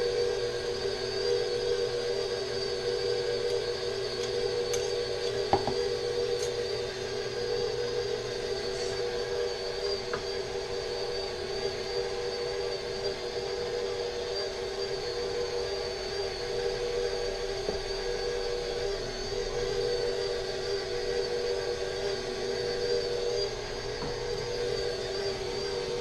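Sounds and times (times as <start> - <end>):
stand mixer motor whining: 0.0 - 26.0.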